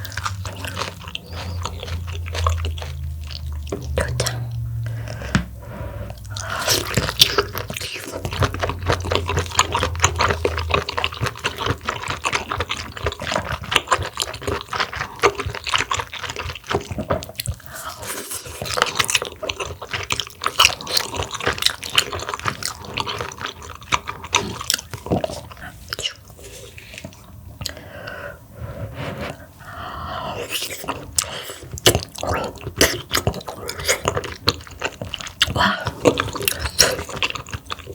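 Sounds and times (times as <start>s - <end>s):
wet chewing with smacking clicks: 0.0s - 27.8s, 30.5s - 37.9s.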